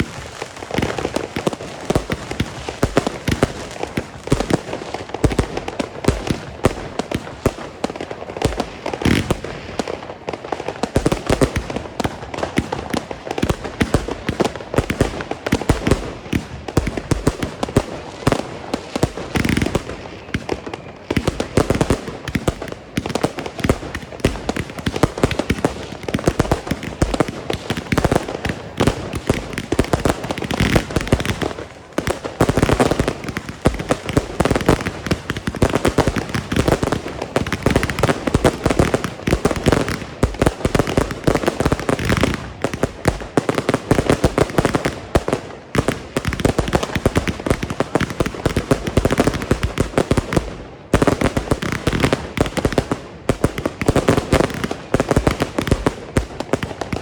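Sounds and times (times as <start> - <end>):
fireworks shots bangs and crackling: 0.0 - 57.0.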